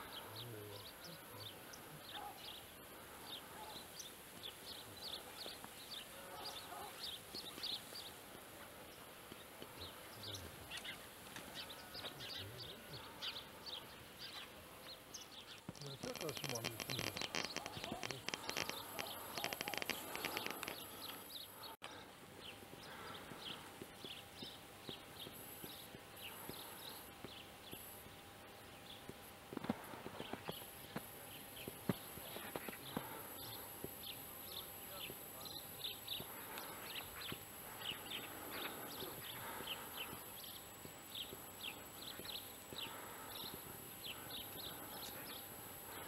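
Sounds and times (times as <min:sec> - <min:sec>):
small birds chirping: 0:00.0 - 0:28.1, 0:28.8 - 0:46.0.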